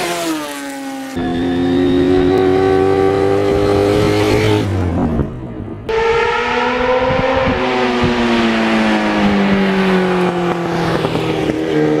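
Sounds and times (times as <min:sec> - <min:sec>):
motorcycle passing by: 0:00.0 - 0:05.3, 0:05.9 - 0:12.0.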